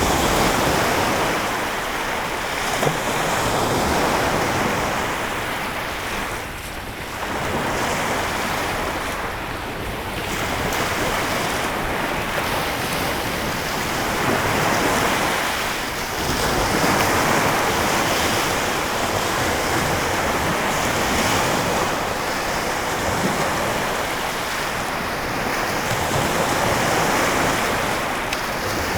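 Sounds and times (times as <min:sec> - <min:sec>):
waves washing ashore: 0:00.0 - 0:28.9.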